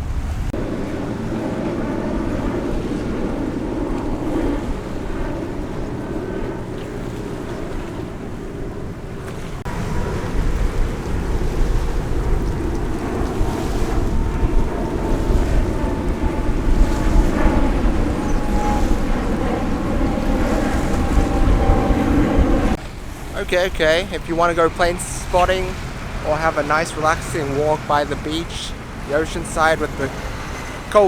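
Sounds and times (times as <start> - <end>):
waves washing on shore: 0.0 - 31.0
wind buffeting microphone: 0.0 - 31.0.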